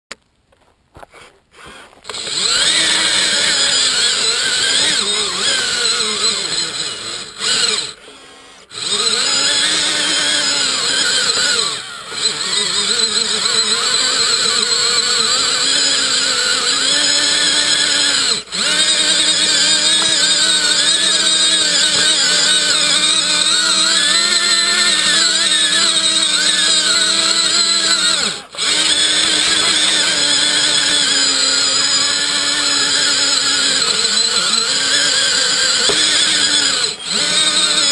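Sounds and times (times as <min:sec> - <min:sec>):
model motors whining: 0:01.1 - 0:37.9.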